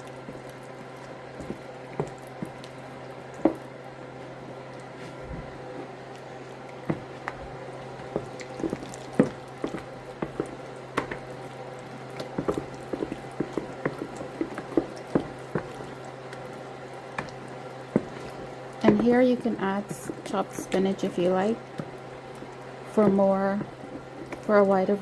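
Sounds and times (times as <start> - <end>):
steady low hum: 0.0 - 25.0
wet stirring sounds: 0.0 - 25.0.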